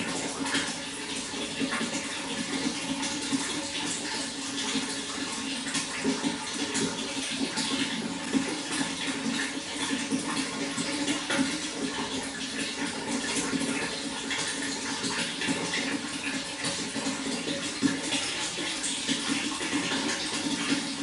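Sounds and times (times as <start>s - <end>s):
running water splashing: 0.0s - 21.0s.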